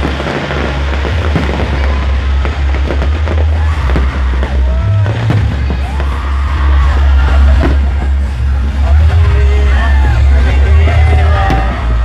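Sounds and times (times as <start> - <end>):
fireworks crackling and banging: 0.0 - 12.0
steady low rumble: 0.0 - 12.0.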